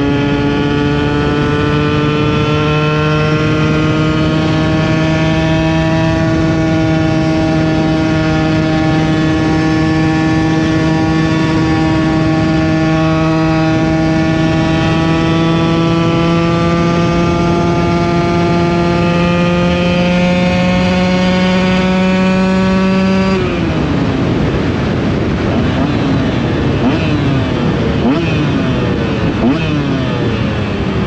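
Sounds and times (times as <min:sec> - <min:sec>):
two-stroke motorcycle engine revving: 0:00.0 - 0:31.0
wind rushing over microphone: 0:00.0 - 0:31.0.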